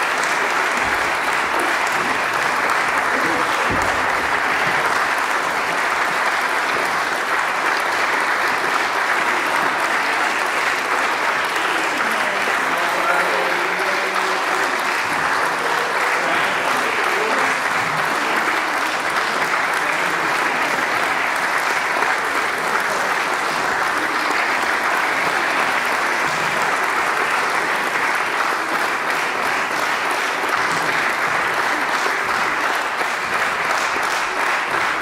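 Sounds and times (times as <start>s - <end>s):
audience applauding: 0.0s - 35.0s.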